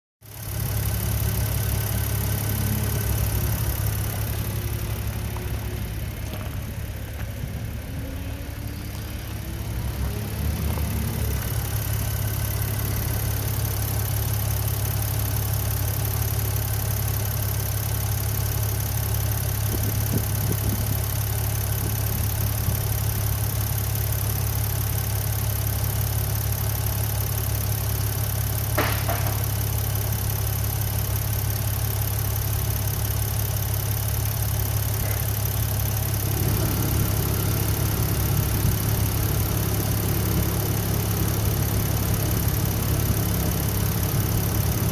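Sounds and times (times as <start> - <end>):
car engine idling: 0.2 - 44.9.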